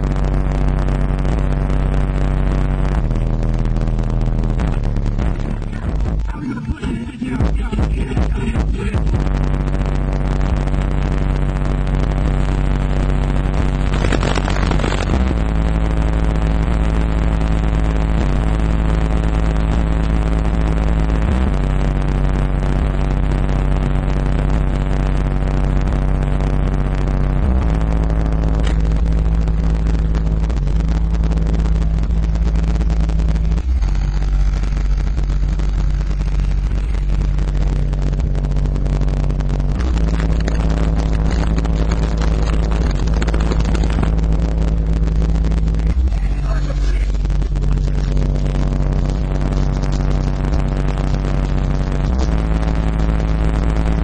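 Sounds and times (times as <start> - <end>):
deep subwoofer bass notes: 0.0 - 54.0.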